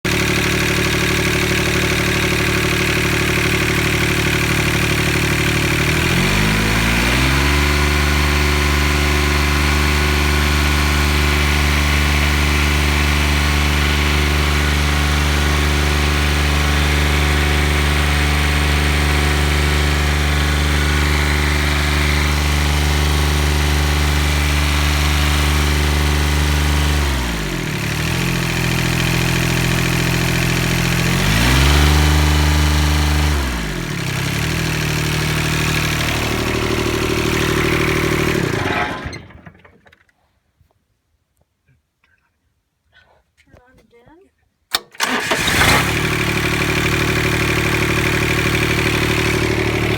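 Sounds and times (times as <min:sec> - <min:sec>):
diesel engine running: 0:00.1 - 0:39.6, 0:45.0 - 0:49.9.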